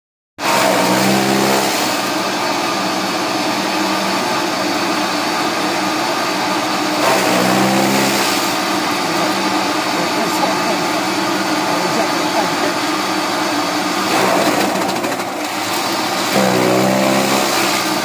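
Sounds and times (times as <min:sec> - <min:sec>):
chaff cutter chopping fodder: 0:00.4 - 0:18.0.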